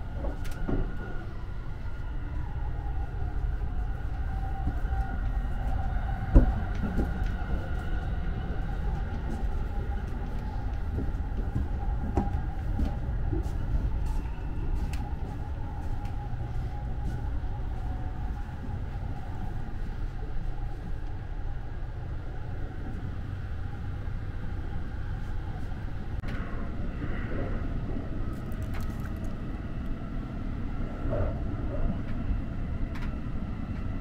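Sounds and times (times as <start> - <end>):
train interior running rumble: 0.0 - 34.0.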